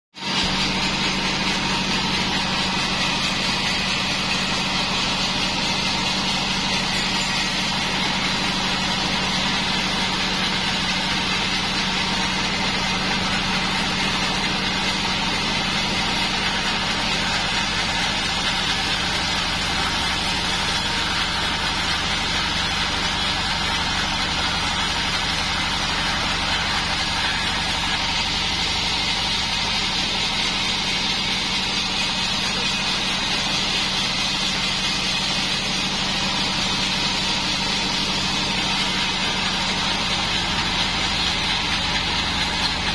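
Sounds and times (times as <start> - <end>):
bandsaw mill droning: 0.2 - 42.9.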